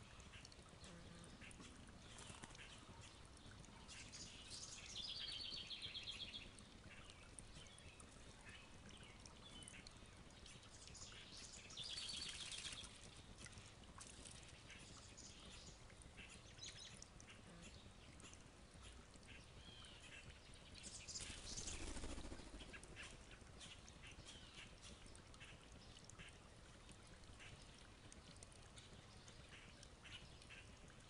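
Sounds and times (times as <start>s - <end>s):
faint songbirds chirping: 0.0s - 31.0s.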